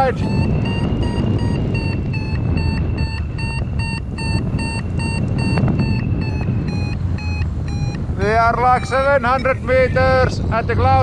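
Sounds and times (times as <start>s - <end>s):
variometer beeping: 0.0s - 10.2s
wind on microphone: 0.0s - 11.0s.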